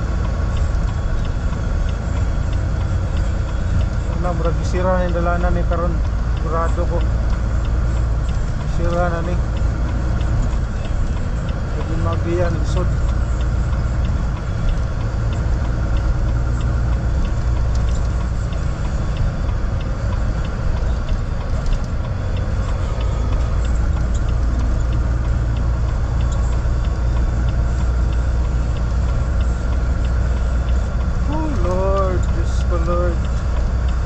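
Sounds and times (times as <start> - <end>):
car interior engine and road noise: 0.0 - 34.0
faint ticking: 0.0 - 34.0.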